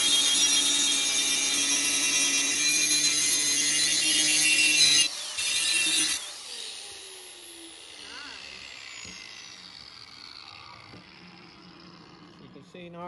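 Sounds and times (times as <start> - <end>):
angle grinder grinding steel: 0.0 - 13.0.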